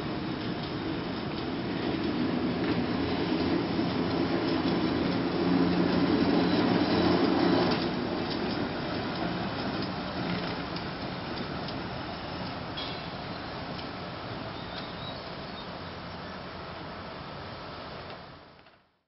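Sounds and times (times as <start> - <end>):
streetcar running on track: 0.0 - 18.5.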